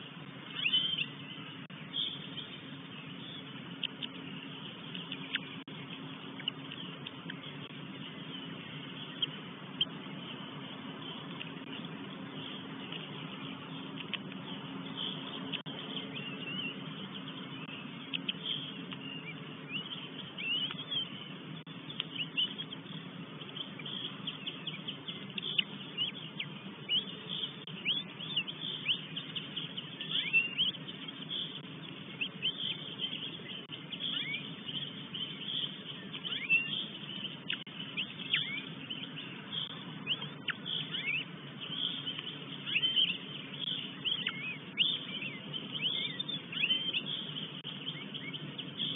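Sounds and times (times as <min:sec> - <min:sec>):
small birds chirping: 0:00.0 - 0:48.9
steady low hum: 0:00.0 - 0:48.9.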